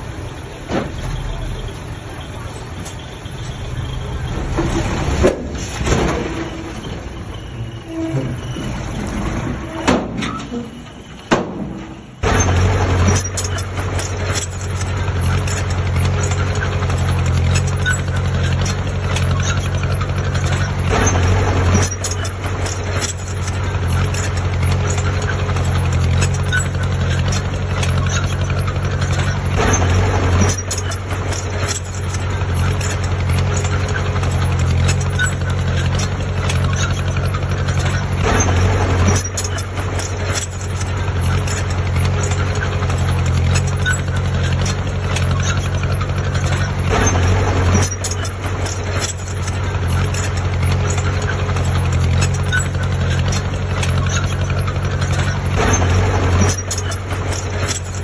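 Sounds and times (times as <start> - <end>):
heavy diesel engine running: 0.0 - 58.0
metal clanks: 0.0 - 58.0.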